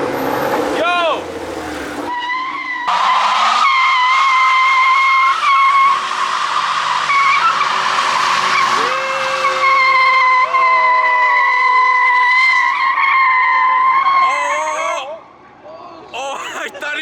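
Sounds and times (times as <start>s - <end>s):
lower tyre squeal: 0.0s - 14.8s
car tyres squealing: 0.0s - 15.0s.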